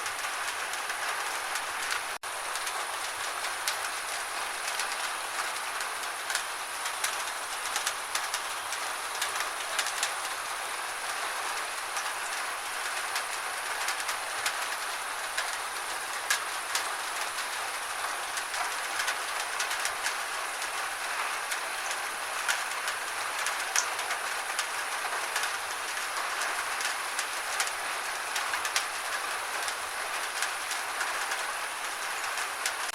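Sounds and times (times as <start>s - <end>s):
gentle rain falling: 0.0s - 32.9s.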